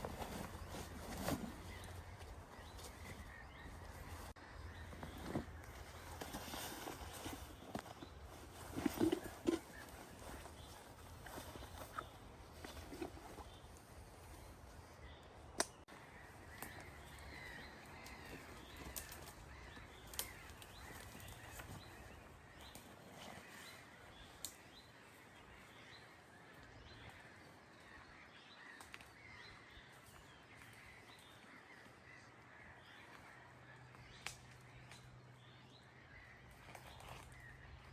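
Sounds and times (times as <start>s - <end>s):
birds calling faintly: 0.0s - 37.9s.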